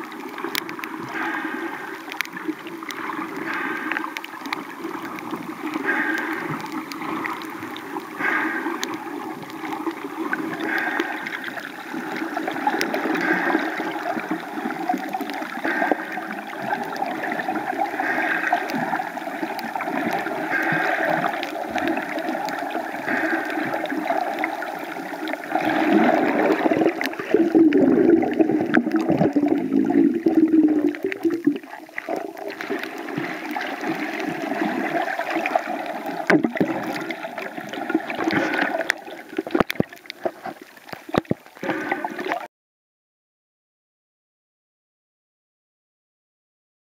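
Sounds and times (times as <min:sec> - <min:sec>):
underwater gurgling wash: 0:00.0 - 0:42.5.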